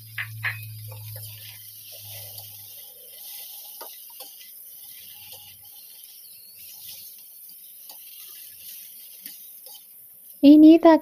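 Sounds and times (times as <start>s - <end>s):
metal spatula scraping a pan: 0.0s - 10.4s
vegetables sizzling in a wok: 0.0s - 11.0s.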